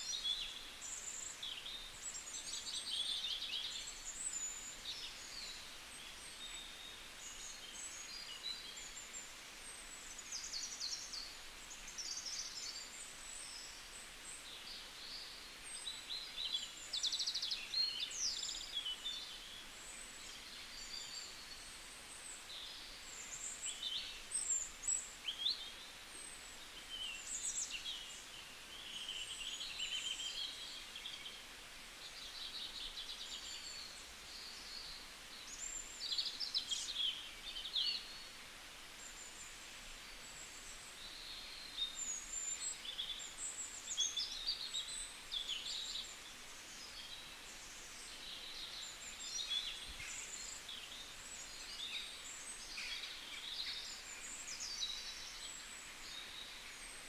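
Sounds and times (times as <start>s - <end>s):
low background hiss: 0.0s - 57.0s.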